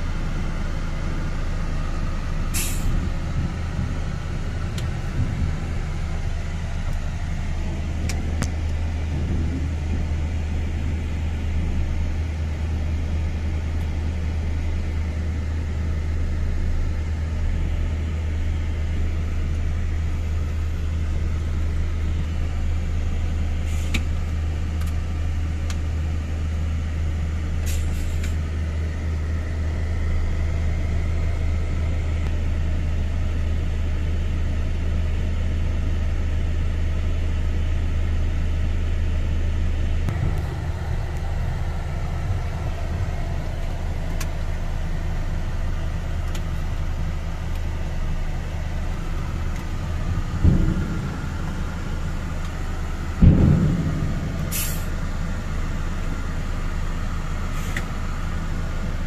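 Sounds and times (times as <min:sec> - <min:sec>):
vehicle engine drone from cab: 0:00.0 - 0:59.0.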